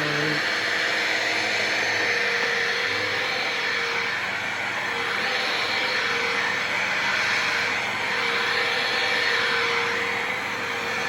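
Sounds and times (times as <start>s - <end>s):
vacuum cleaner motor whir: 0.0s - 11.0s.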